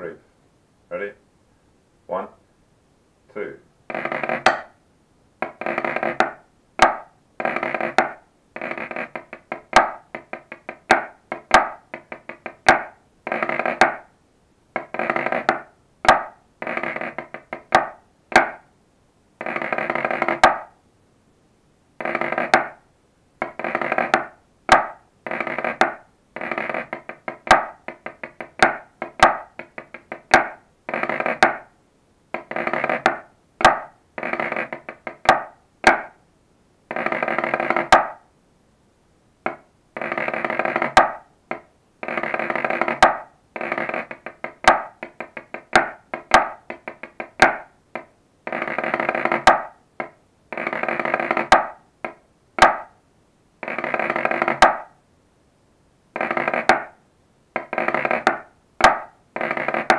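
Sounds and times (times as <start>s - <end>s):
snare drum on practice pad: 3.9s - 4.8s, 5.4s - 14.1s, 14.7s - 18.7s, 19.4s - 20.8s, 22.0s - 22.8s, 23.4s - 36.2s, 36.9s - 38.3s, 39.4s - 53.0s, 53.6s - 55.0s, 56.2s - 57.0s, 57.6s - 59.9s.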